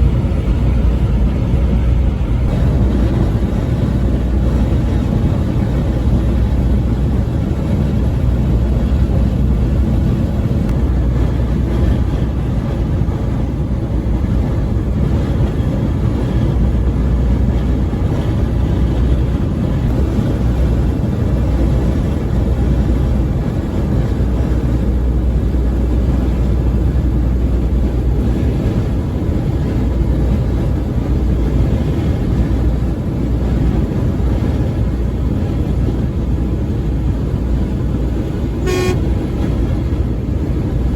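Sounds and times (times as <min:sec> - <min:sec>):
road and tyre noise: 0:00.0 - 0:40.9
truck engine drone: 0:00.0 - 0:40.9.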